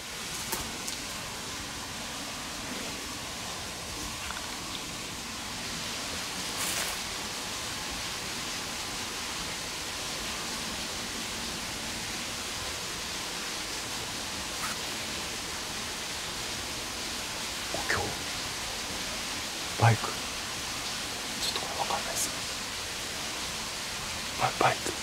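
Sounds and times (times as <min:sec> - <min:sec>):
rushing hiss of night ambience: 0:00.0 - 0:25.0.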